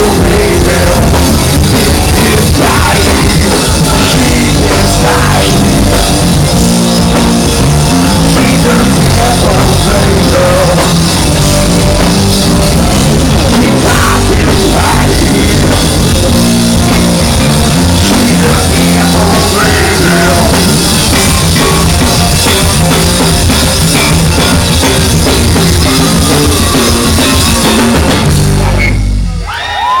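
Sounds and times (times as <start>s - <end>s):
live rock band playing loud: 0.0s - 30.0s.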